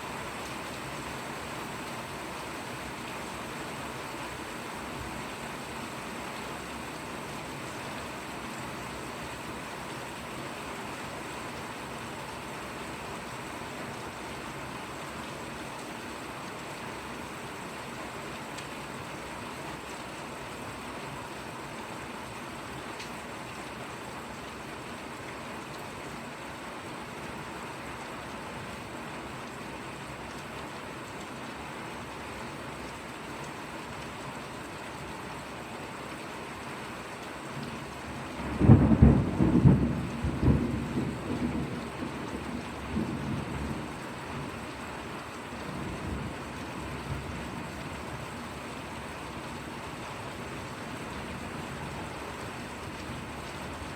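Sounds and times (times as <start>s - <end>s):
light rain falling: 0.0s - 53.9s.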